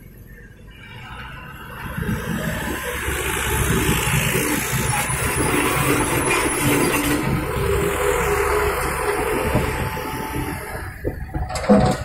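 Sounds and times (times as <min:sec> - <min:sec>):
diesel truck engine rumble: 0:00.0 - 0:12.0
tyre noise on road: 0:00.0 - 0:12.0.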